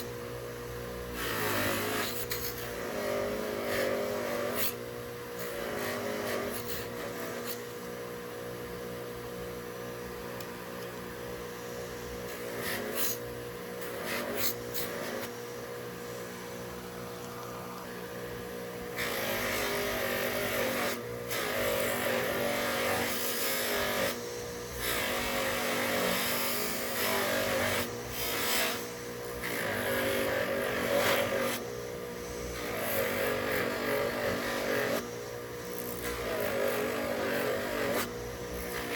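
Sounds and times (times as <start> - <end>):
motor running steadily: 0.0 - 38.9.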